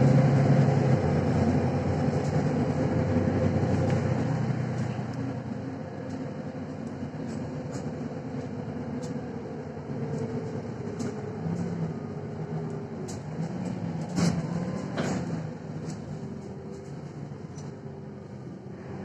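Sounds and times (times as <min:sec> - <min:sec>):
bus engine running: 0:00.0 - 0:19.0
road noise: 0:00.0 - 0:19.0.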